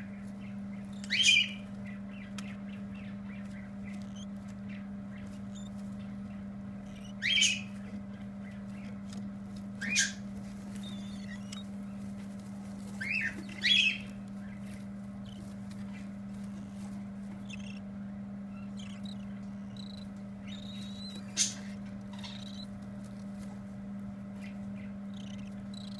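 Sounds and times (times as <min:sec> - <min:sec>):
baby birds chirping: 0:00.0 - 0:25.9
steady low hum: 0:00.0 - 0:25.9.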